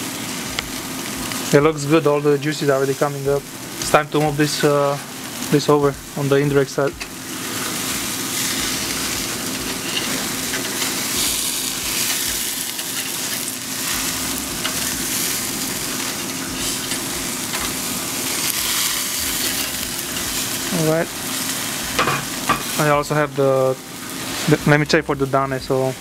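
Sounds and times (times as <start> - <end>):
burger patties sizzling on a grill: 0.0 - 26.0.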